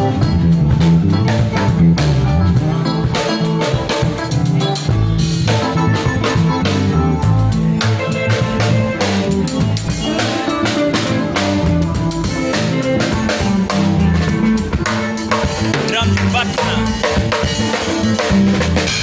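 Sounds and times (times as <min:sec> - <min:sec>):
drum kit beat and cymbals: 0:00.0 - 0:19.0
electric bass guitar: 0:00.0 - 0:19.0.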